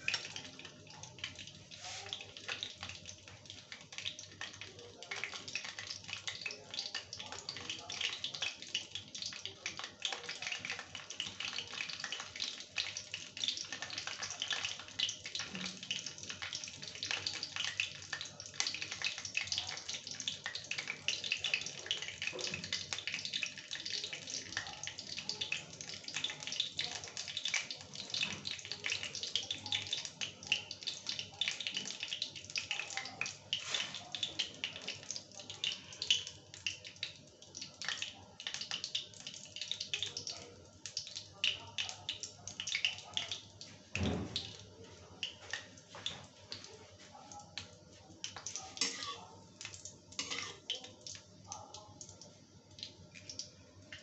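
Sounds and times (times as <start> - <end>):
seeds sizzling in hot oil: 0.0 - 54.0.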